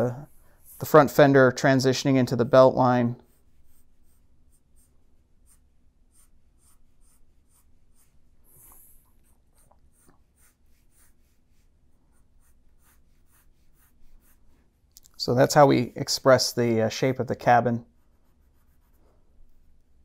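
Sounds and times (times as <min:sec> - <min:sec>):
pencil scratching on paper: 0:00.0 - 0:01.5, 0:02.5 - 0:16.6, 0:17.8 - 0:20.0.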